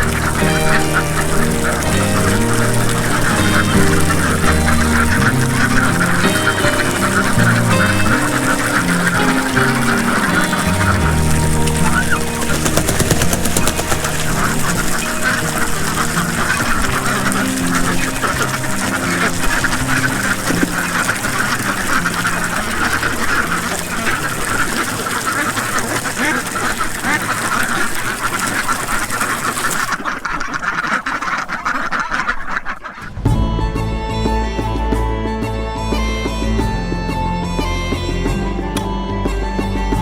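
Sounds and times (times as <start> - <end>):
ducks quacking: 0.0 - 39.0.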